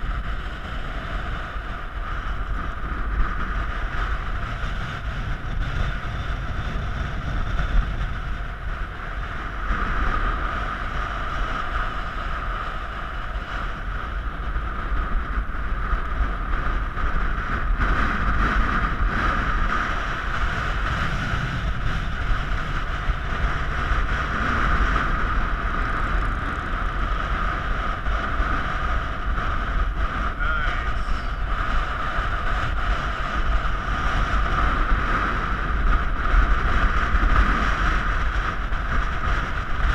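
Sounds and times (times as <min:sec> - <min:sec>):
steady high whine: 0:00.0 - 0:39.9
wind buffeting microphone: 0:00.0 - 0:39.9.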